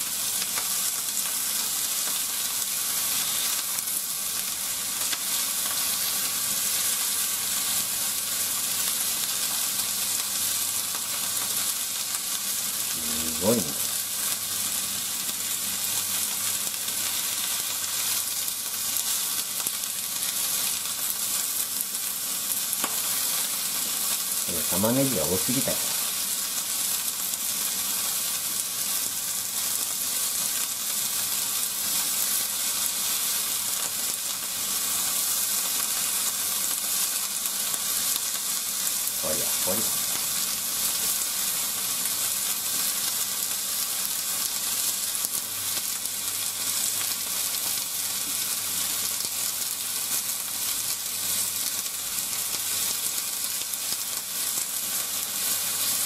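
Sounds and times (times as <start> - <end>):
meat and onions sizzling in pan: 0.0 - 56.0.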